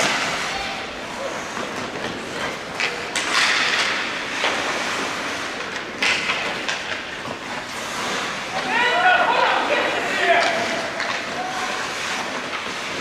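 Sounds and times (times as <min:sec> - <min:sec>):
skate blades scraping ice: 0:00.0 - 0:13.0.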